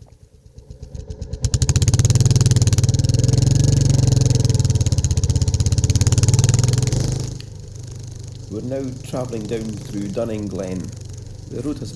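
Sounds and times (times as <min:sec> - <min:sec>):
motorcycle engine and exhaust: 0:00.0 - 0:11.9.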